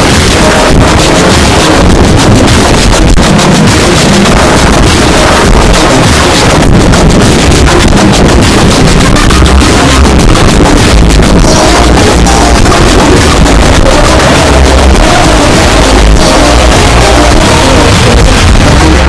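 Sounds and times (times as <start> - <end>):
distorted dance music: 0.0 - 19.0.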